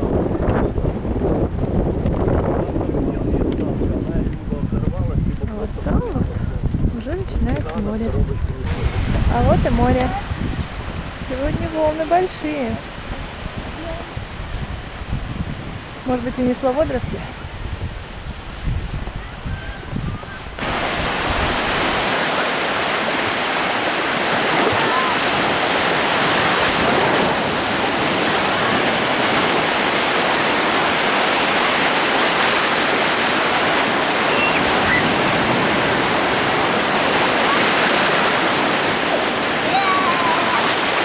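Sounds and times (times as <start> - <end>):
surf breaking: 0.0 - 41.0
wind buffeting microphone: 0.0 - 41.0.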